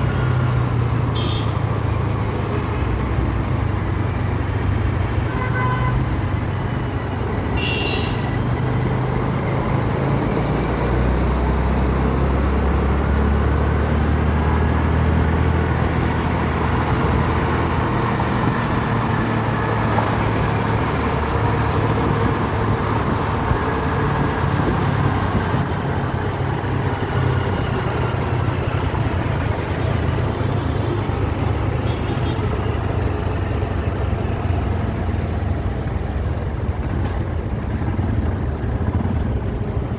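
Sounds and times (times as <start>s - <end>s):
vehicle engines running: 0.0s - 39.9s.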